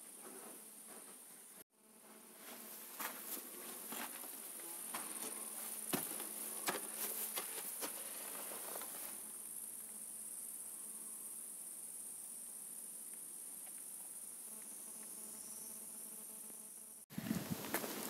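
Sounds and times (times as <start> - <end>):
insects chorus: 2.4 - 18.0.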